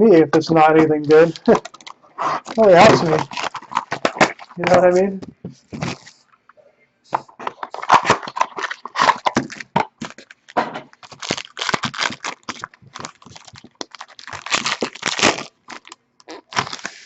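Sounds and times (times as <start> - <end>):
plastic and cardboard packaging crinkling: 1.0 - 6.3, 7.1 - 17.0.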